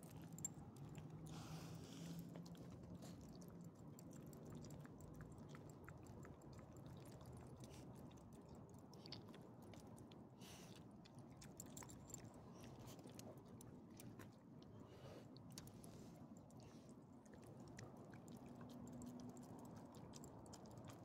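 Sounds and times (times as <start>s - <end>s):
small dogs chewing and lapping: 0.0s - 21.0s.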